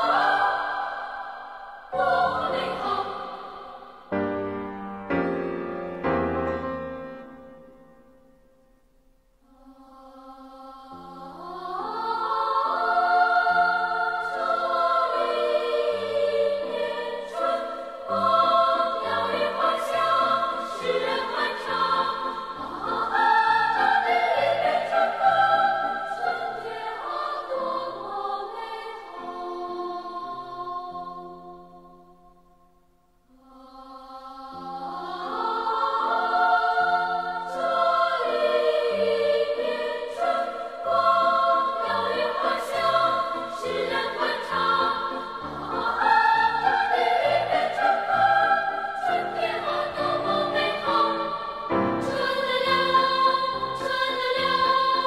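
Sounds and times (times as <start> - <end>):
background music: 0.0 - 55.0
choral music with sustained voices: 0.0 - 55.0.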